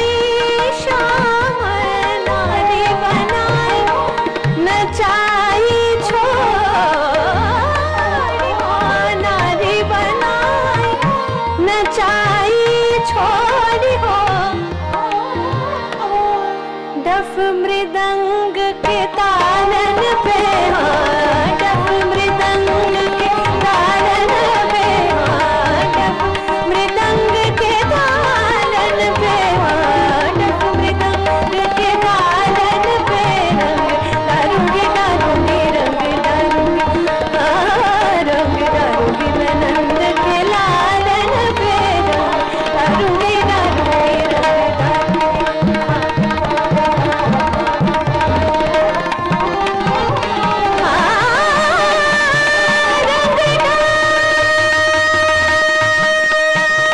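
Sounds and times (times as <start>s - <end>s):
tabla strokes: 0.0s - 16.1s, 18.8s - 56.9s
tanpura drone: 0.0s - 56.9s
woman singing classical vocals: 0.0s - 56.9s.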